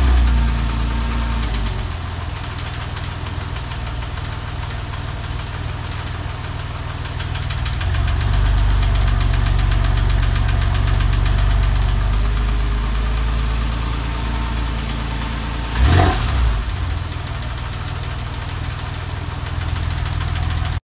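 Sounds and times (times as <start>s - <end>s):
car engine idling: 0.0s - 20.8s.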